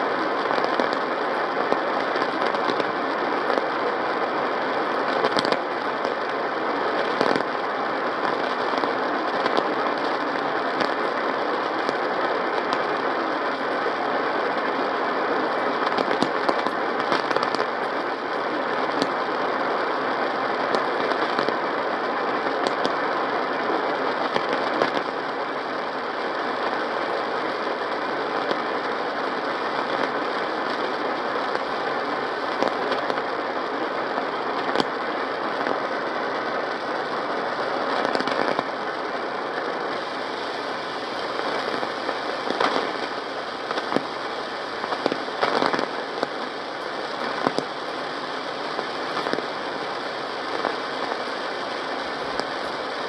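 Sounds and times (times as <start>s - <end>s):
crackles and clicks: 0.0s - 53.0s
radio static hiss: 0.0s - 53.0s.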